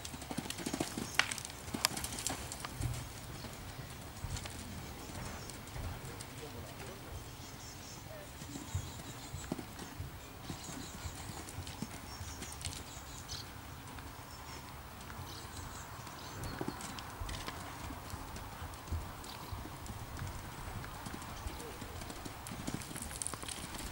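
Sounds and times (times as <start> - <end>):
horse hoofbeats on sand: 0.0 - 23.9.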